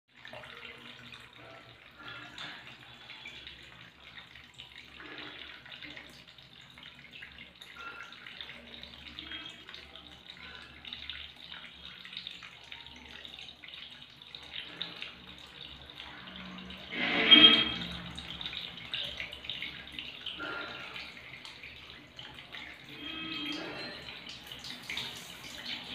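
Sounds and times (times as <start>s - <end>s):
water splashing and dripping: 0.1s - 25.9s
water trickling into a mug: 0.1s - 25.9s.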